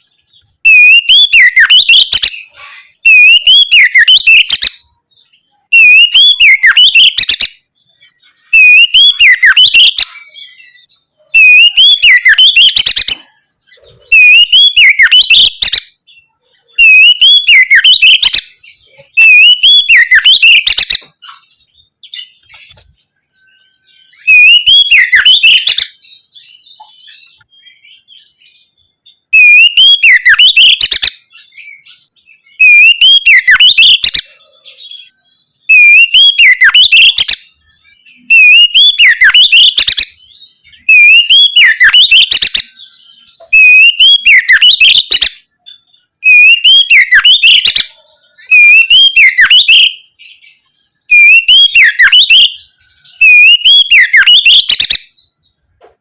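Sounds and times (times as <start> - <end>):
bird whistling song: 0.0 - 56.0.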